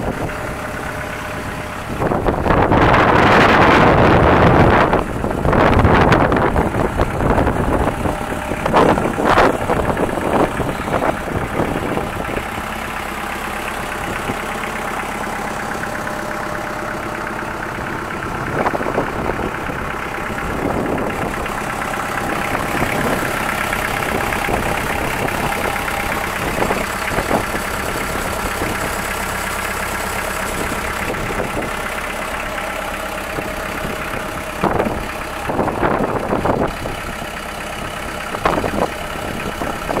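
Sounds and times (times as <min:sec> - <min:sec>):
tractor diesel engine idling: 0:00.0 - 0:40.0.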